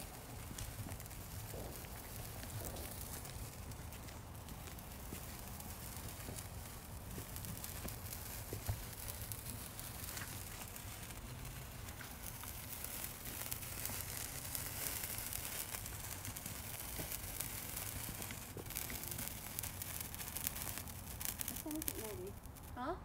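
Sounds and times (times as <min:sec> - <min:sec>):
sparkler fizzing and crackling: 0:00.0 - 0:23.0.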